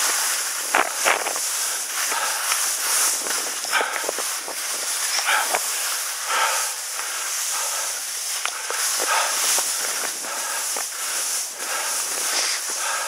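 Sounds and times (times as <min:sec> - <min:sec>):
skis scraping over snow: 0:00.0 - 0:13.0.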